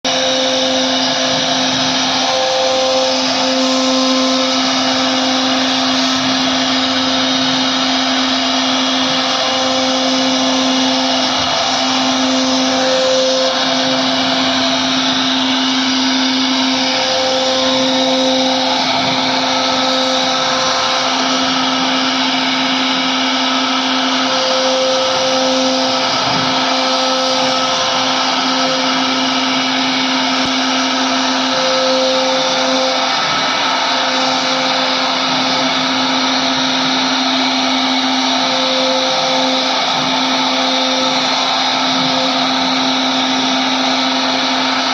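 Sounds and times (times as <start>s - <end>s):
bit cutting wood: 0.0s - 44.9s
router spindle motor whine: 0.0s - 44.9s.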